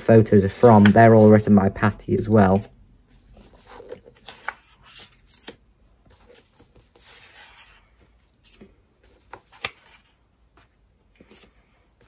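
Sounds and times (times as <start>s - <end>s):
book pages turning: 0.0s - 12.0s.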